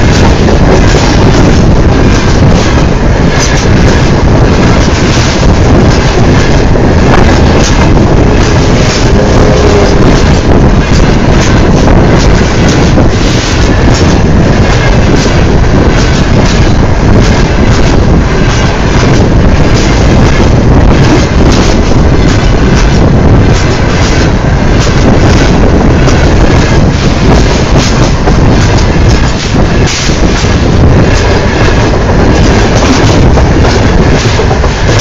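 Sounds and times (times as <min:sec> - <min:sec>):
railway wagons rolling overhead: 0:00.0 - 0:35.0.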